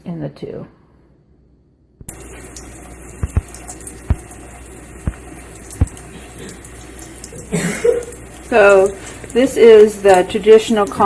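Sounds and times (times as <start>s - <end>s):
tap water splashing in sink: 2.0s - 11.0s.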